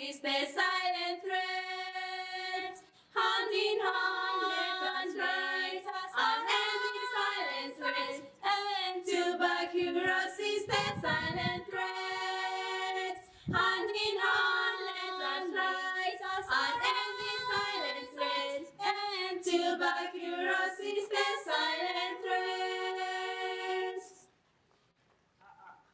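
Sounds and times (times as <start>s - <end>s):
girls singing a cappella: 0.0s - 24.3s.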